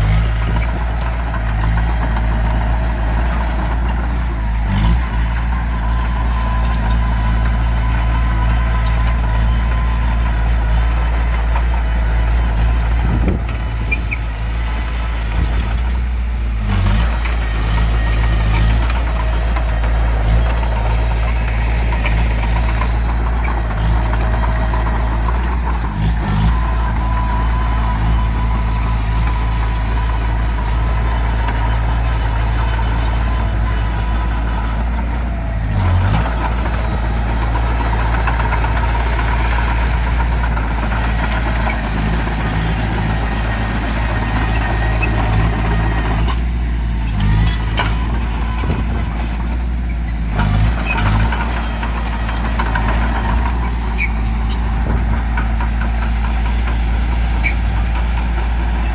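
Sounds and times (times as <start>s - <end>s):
heavy diesel engine running: 0.0s - 58.9s
short clunks: 0.1s - 58.9s.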